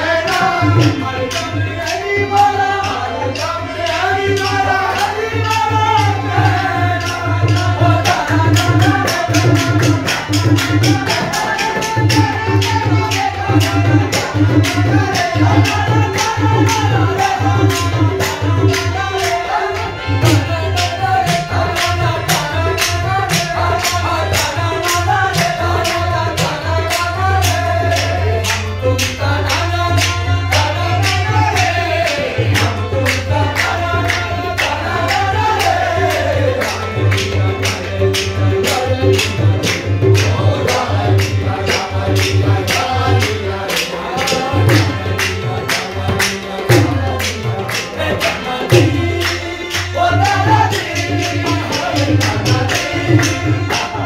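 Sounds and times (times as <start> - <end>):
group singing with harmonium drone: 0.0 - 54.0
tabla drumming: 0.0 - 54.0
hand claps: 0.2 - 54.0.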